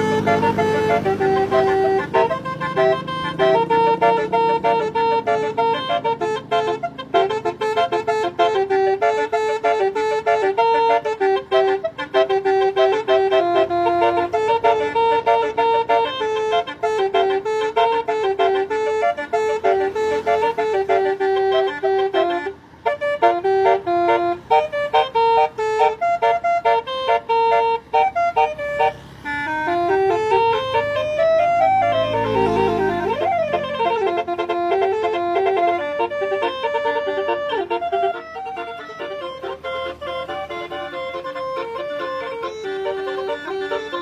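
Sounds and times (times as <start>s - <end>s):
bus horn playing buzzy melody: 0.0s - 44.0s.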